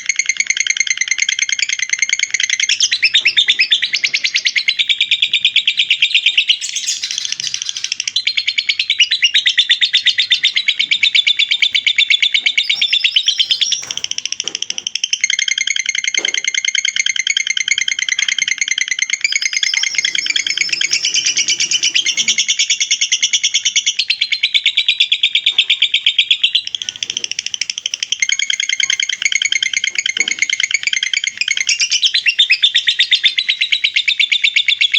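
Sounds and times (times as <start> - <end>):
lovebird chattering trills: 0.0 - 34.9.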